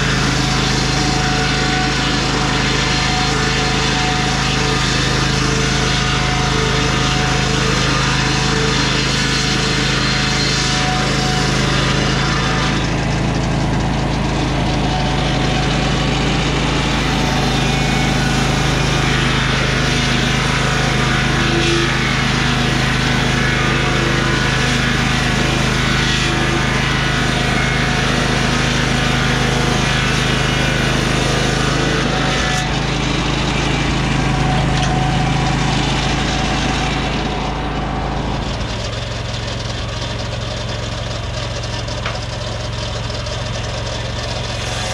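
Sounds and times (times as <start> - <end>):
circular saw blade cutting wood: 0.0 - 44.9
engine running under load: 0.0 - 44.9.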